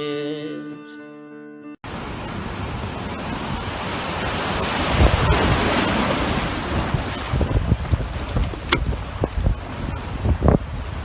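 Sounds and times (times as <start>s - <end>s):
rushing water: 1.9s - 11.0s
wind buffeting microphone: 2.0s - 11.0s.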